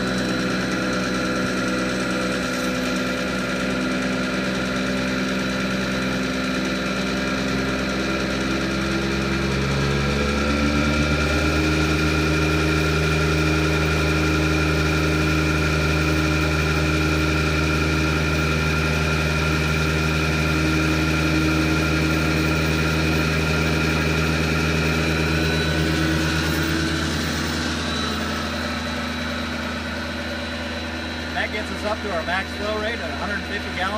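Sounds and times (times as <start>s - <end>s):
electric pump whining: 0.0s - 33.9s.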